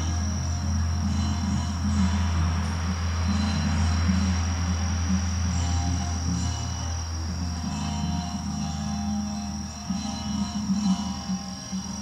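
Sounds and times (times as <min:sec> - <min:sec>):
low sustained music notes: 0:00.0 - 0:12.0
steady drone: 0:00.0 - 0:12.0.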